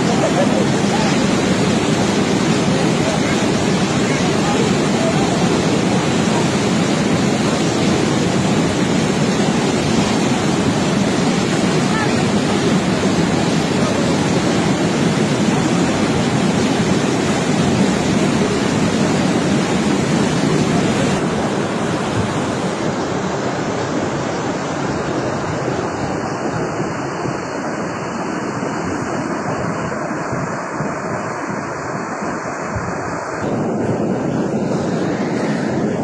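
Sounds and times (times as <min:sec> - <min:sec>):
floodwater roaring: 0:00.0 - 0:36.0.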